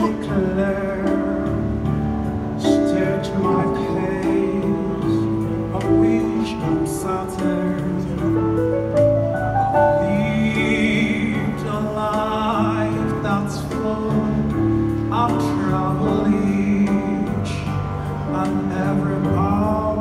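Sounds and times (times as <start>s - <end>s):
man singing into microphone: 0.0s - 8.6s, 9.6s - 20.0s.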